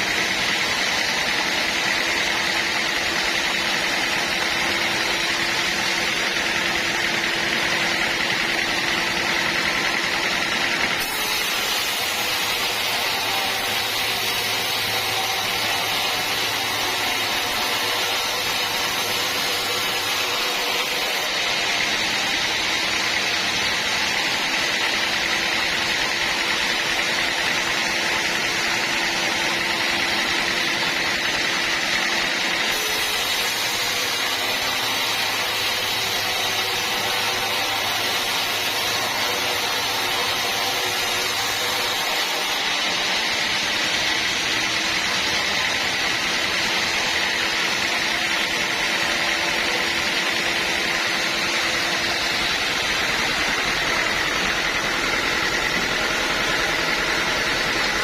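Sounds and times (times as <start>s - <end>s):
bandsaw mill running: 0.0s - 58.0s.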